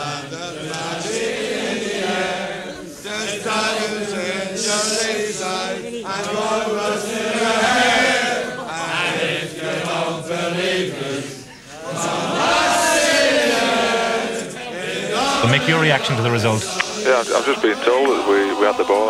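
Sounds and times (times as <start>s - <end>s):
crowd singing together: 0.0s - 19.0s.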